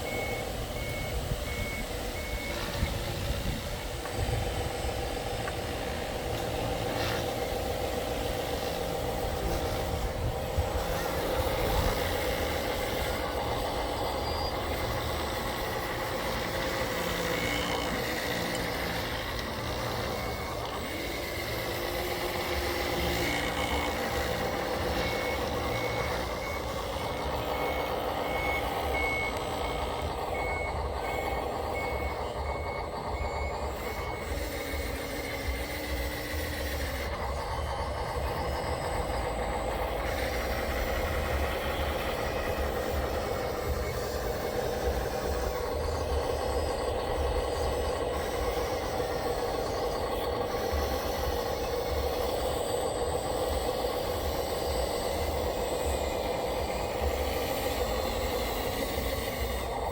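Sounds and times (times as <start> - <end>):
electric motor whines: 0.0 - 59.9
mechanical drone: 0.0 - 59.9.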